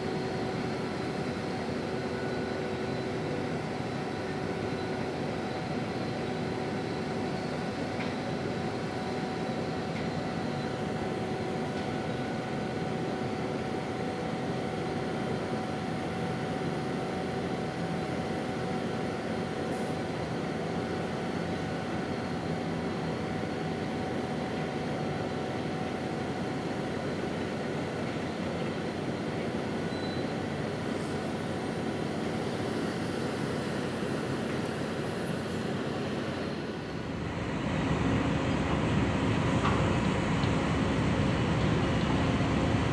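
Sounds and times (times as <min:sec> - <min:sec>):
ship engines droning: 0:00.1 - 0:42.9.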